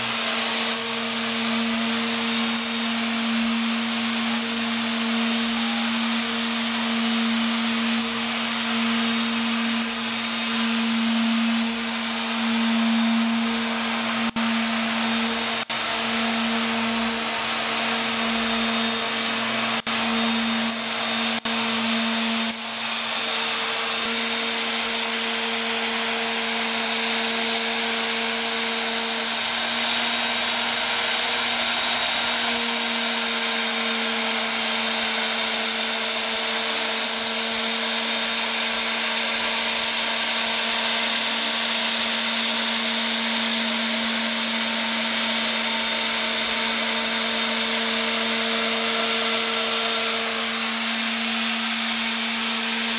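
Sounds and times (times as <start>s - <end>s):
wood router whining: 0.0s - 52.9s.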